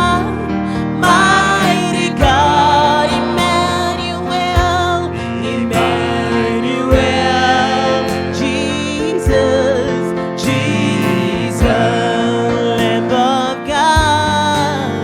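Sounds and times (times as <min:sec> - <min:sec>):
gospel singing over a band: 0:00.0 - 0:15.0.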